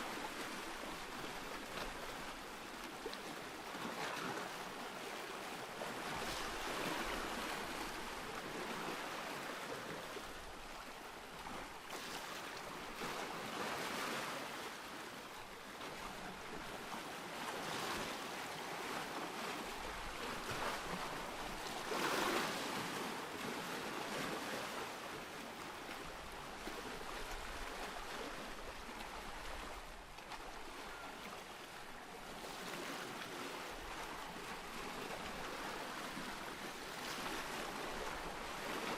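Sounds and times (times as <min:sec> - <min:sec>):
waves breaking and washing in: 0:00.0 - 0:38.9.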